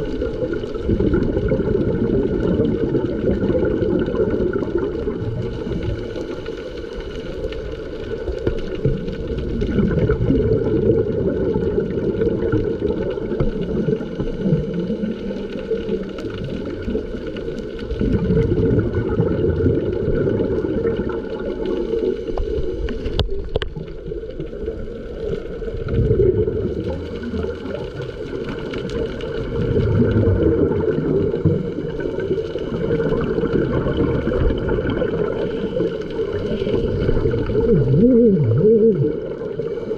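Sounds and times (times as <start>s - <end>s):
underwater bubbling and rumbling: 0.0s - 39.9s.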